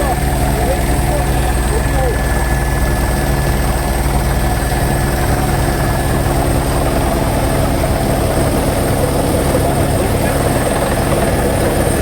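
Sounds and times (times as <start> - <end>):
helicopter rotor beating: 0.0 - 12.0.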